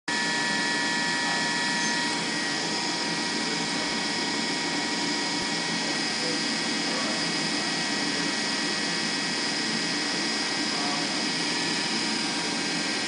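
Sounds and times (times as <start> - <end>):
high whining tones: 0.1 - 13.0.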